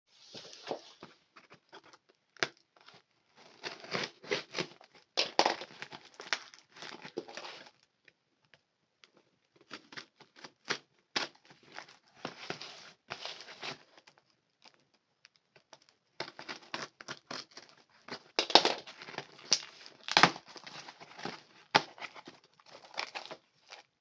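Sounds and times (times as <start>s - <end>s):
packaging crinkling and rustling: 0.3s - 7.9s, 9.6s - 24.0s.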